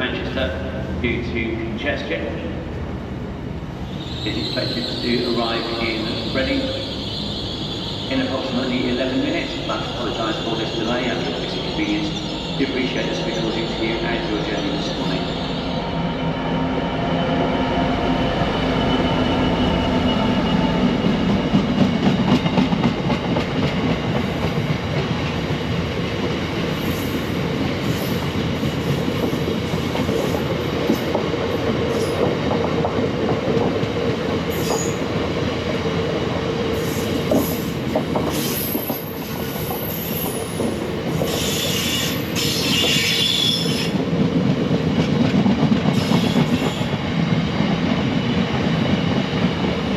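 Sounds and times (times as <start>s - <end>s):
train rumbling: 0.0s - 49.9s.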